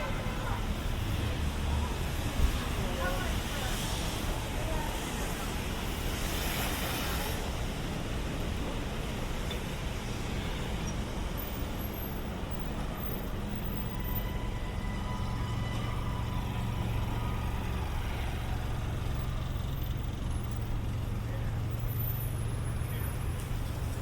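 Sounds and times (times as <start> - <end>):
heavy vehicle engine drone: 0.0 - 24.0
vehicle engines and tyres: 0.0 - 24.0.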